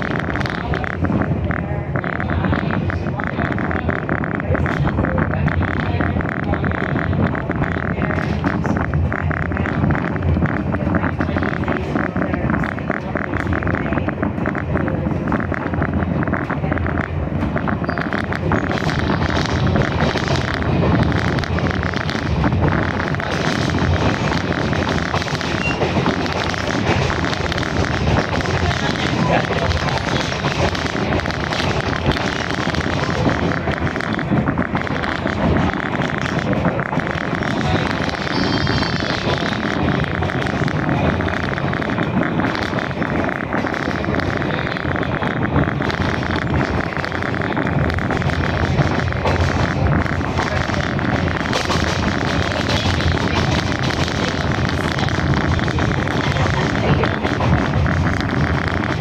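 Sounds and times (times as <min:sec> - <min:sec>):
rapid rattling: 0:00.0 - 0:59.0
train wheels rumbling on rails: 0:00.0 - 0:59.0.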